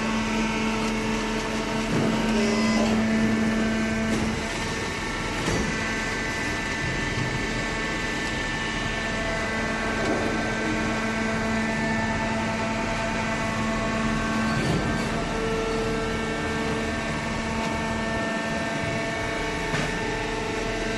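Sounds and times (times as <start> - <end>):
hydraulic baler motor hum: 0.0 - 20.9.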